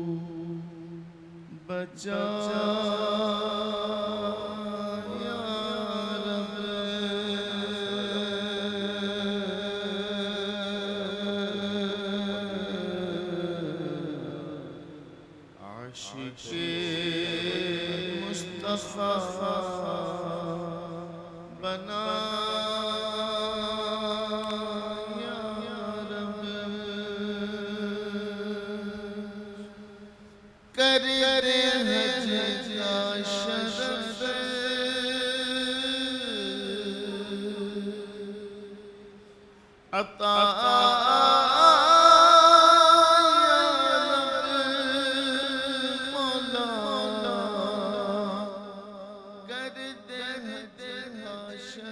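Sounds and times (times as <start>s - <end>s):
man singing: 1.5s - 14.8s, 15.6s - 29.7s, 30.8s - 38.9s, 40.0s - 48.8s, 49.4s - 51.9s.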